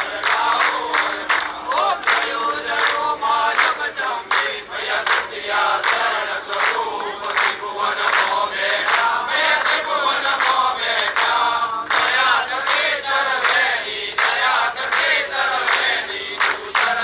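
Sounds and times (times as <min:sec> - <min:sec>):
crowd singing devotional song: 0:00.0 - 0:17.0
hands clapping in time: 0:00.0 - 0:17.0.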